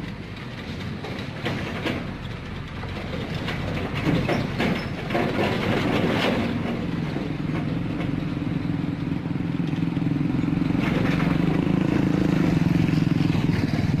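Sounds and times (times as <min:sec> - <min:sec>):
diesel truck engine running: 0:00.0 - 0:14.0
knocks and rattles: 0:00.0 - 0:14.0.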